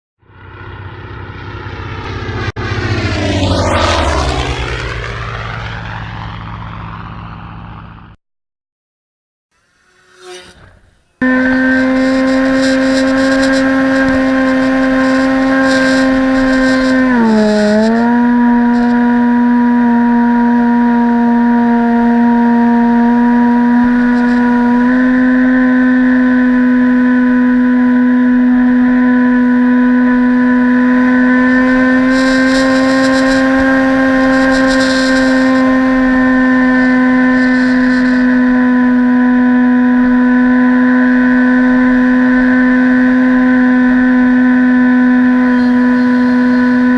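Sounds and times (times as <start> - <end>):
model aircraft motor whine: 0.3 - 8.2, 9.6 - 46.9.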